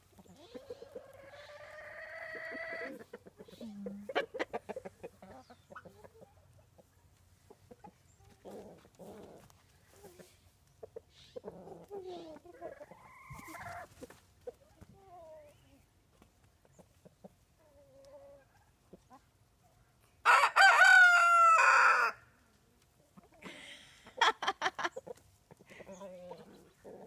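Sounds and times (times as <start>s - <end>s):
chickens clucking: 0.0s - 20.0s, 22.5s - 27.0s.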